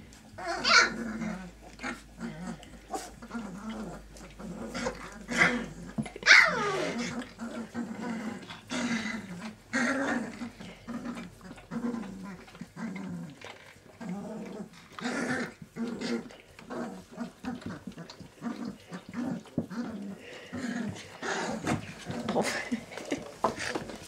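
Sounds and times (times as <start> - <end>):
puppies growling and squeaking: 0.0 - 24.0.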